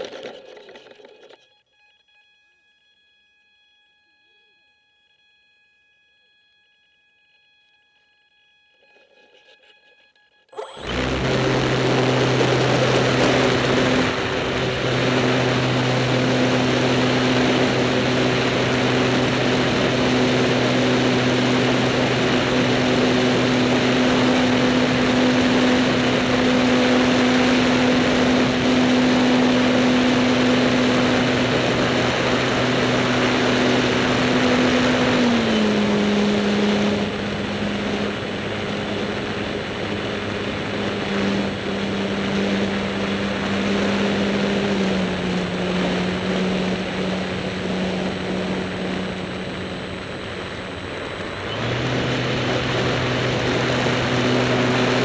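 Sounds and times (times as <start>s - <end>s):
electric motor humming whine: 0.0s - 55.0s.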